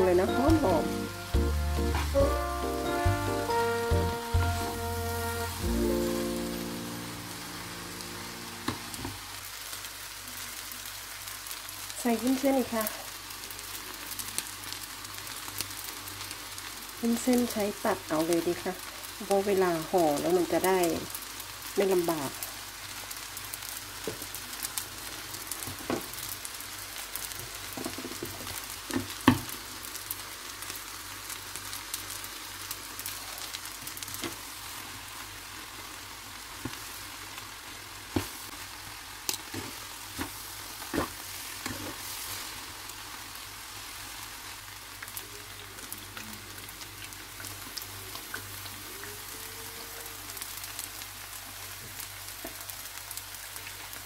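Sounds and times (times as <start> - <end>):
vegetables sizzling in a frying pan: 0.0 - 54.0.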